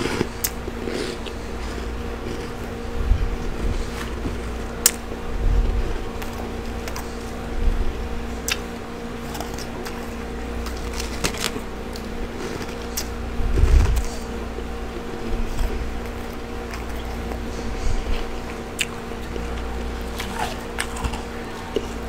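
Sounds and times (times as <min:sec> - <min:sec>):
crunching and chewing frost: 0:00.0 - 0:22.0
steady hum: 0:00.0 - 0:22.0.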